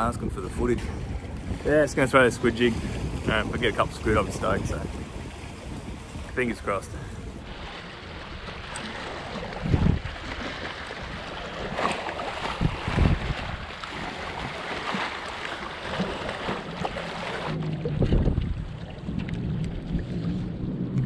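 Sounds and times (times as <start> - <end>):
wind on microphone: 0.0 - 15.0, 15.8 - 21.0
water lapping on shore: 0.0 - 21.0.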